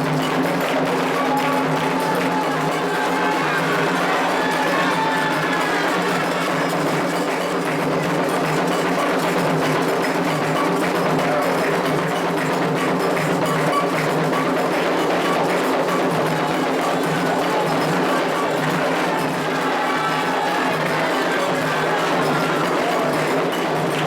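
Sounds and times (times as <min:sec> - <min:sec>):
hand drums playing: 0:00.0 - 0:24.0
struck bell percussion: 0:00.0 - 0:24.0.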